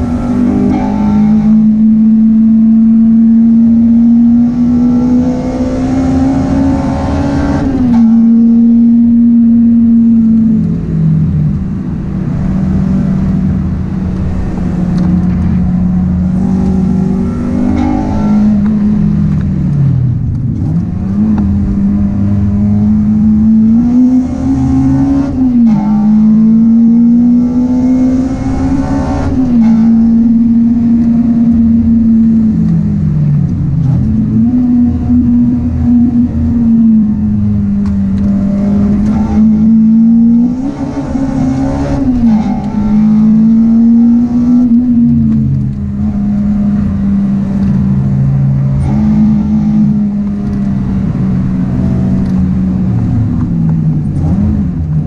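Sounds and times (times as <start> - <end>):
car engine revving in cabin: 0.0 - 55.0.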